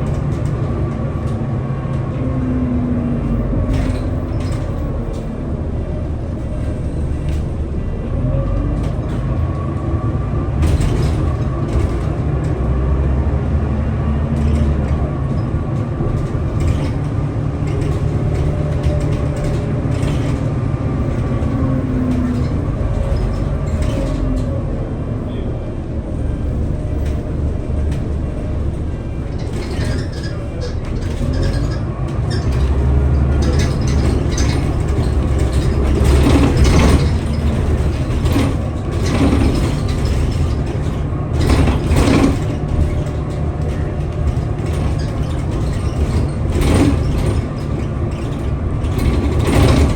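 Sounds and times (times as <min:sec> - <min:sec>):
rattles and knocks: 0:00.0 - 0:25.2, 0:26.1 - 0:49.9
bus diesel engine drone: 0:00.0 - 0:49.9.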